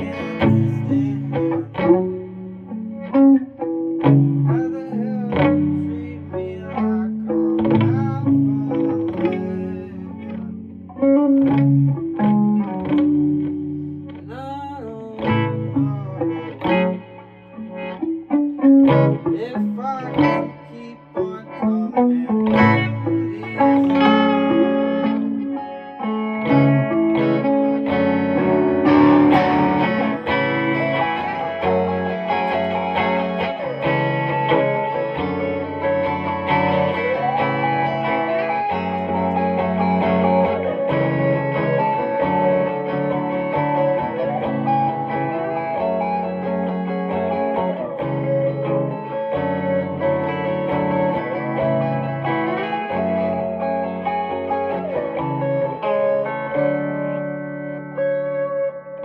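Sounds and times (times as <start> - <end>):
electric guitar with effects: 0.0 - 59.0.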